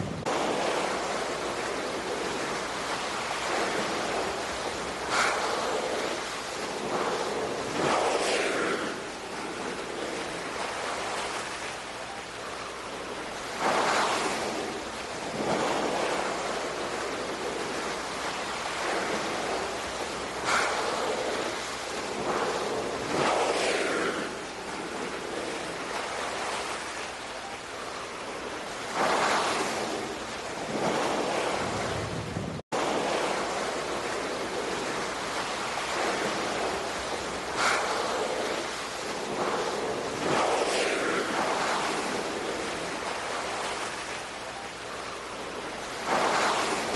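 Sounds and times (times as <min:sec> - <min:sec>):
steady sea rush: 0:00.0 - 0:46.9
waves washing in: 0:00.0 - 0:46.9.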